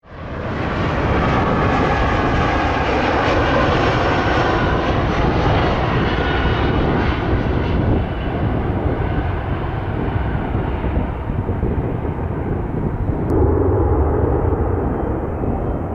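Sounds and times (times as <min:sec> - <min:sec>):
jet engines roaring: 0:00.3 - 0:15.9.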